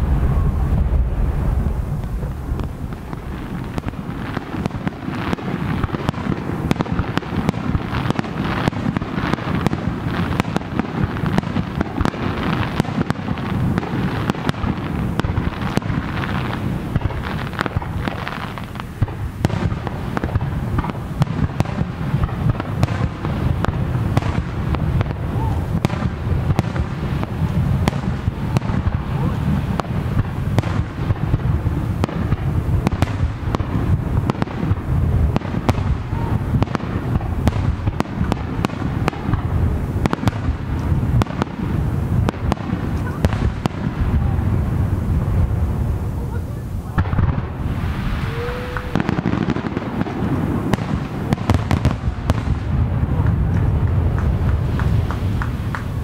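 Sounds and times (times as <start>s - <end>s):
fireworks bursting: 0.0s - 56.0s
fireworks crackling and popping: 0.0s - 56.0s.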